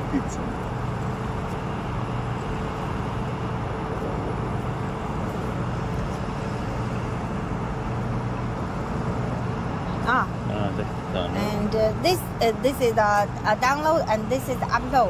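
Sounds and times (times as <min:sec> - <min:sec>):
mechanical droning hum: 0:00.0 - 0:15.0.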